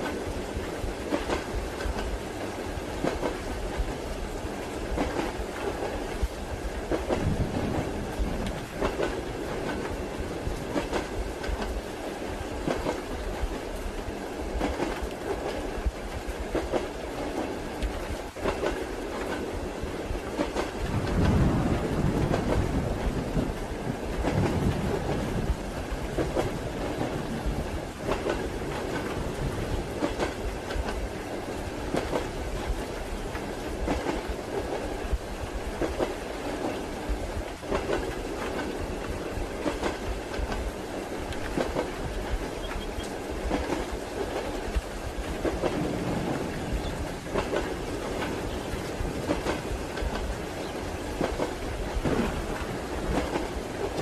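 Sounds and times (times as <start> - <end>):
train wheels clacking over rail joints: 0.0 - 4.0, 4.9 - 11.8, 14.5 - 19.5, 20.1 - 35.0, 35.6 - 54.0
train rumble: 0.0 - 54.0.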